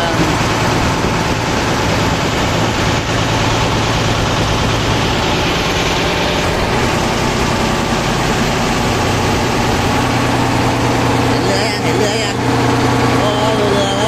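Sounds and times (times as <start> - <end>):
engine idling: 0.0 - 14.0
loud steady noise: 0.0 - 14.0.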